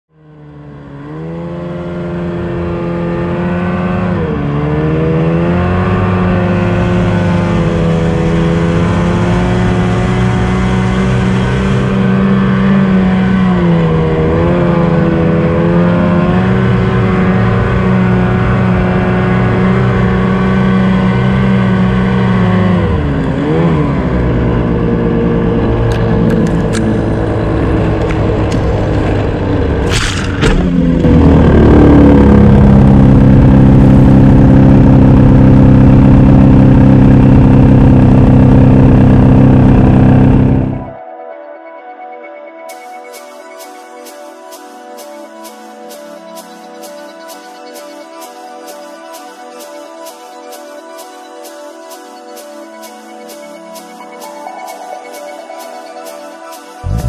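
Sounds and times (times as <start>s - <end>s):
snowmobile engine running: 0.1s - 41.0s, 42.7s - 57.0s.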